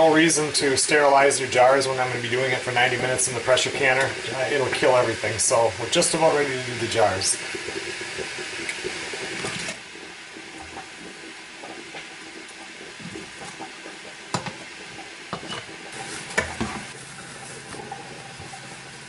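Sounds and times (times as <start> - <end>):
pot simmering hiss: 0.0 - 19.0.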